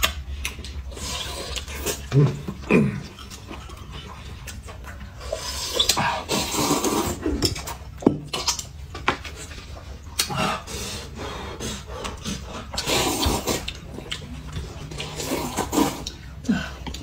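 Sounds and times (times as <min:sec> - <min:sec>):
slurping and chewing noodles: 0:00.0 - 0:17.0.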